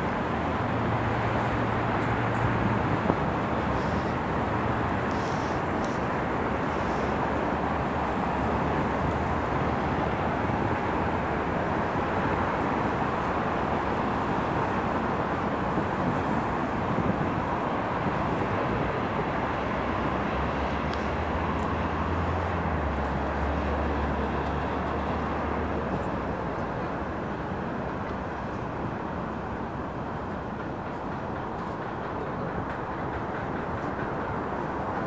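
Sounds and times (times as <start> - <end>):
distant city traffic: 0.0 - 35.0.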